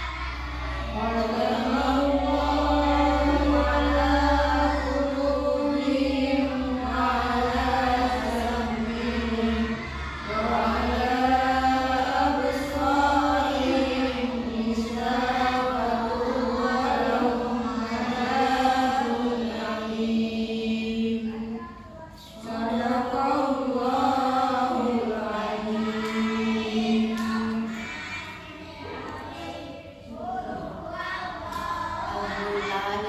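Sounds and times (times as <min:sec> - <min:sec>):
woman chanting a recitation: 0:00.0 - 0:33.0.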